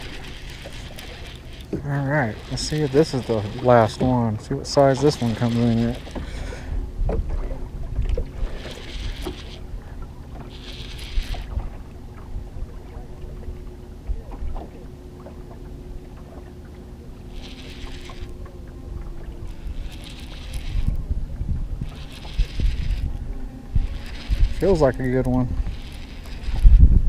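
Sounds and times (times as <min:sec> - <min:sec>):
boat motor rumbling: 0:00.0 - 0:27.0
faint steady hum: 0:00.0 - 0:27.0.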